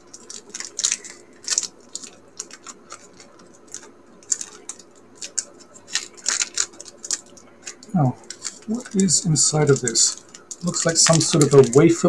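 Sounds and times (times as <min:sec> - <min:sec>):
snack wrapper crackling: 0:00.0 - 0:12.0.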